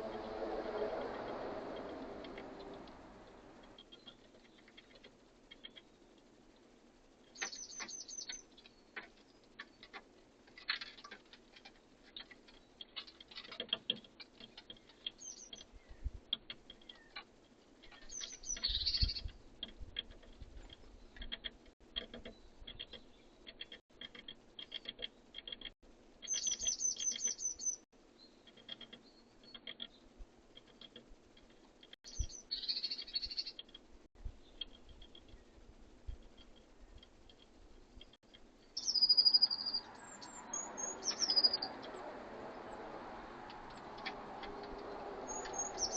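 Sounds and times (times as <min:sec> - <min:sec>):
small songbirds chirping: 0:00.0 - 0:45.9.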